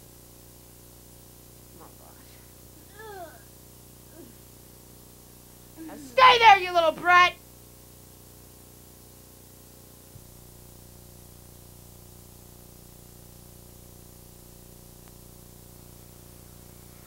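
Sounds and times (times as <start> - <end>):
tape hiss and electrical hum: 0.0 - 17.0.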